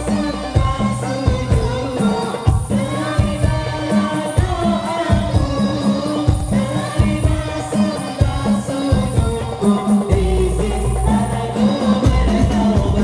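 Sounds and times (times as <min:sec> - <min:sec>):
boy singing into a microphone: 0:00.0 - 0:13.0
frame drums beating: 0:00.0 - 0:13.0
group of men singing: 0:00.0 - 0:13.0.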